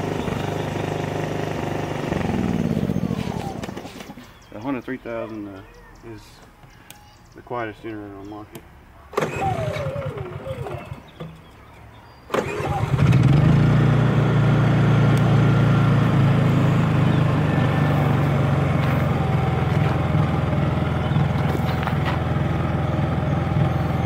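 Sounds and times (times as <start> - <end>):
generator engine humming: 0.0 - 5.8, 7.7 - 24.0.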